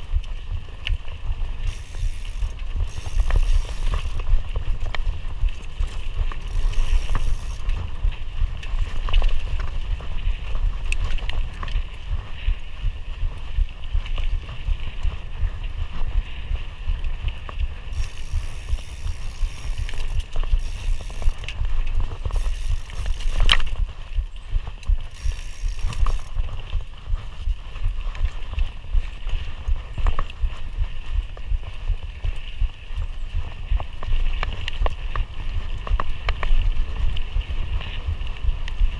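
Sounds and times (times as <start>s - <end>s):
bike rattles and clicks: 0.0s - 38.9s
mountain bike rumbling on dirt: 0.0s - 38.9s.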